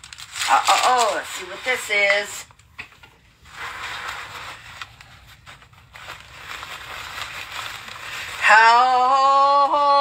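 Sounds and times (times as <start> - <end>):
packaging rustling: 0.0 - 2.3, 3.4 - 9.1.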